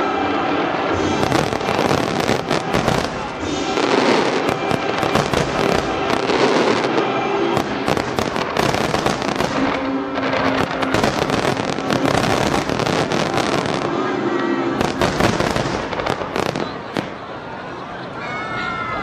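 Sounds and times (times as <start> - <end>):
fireworks bursting: 0.9 - 17.4.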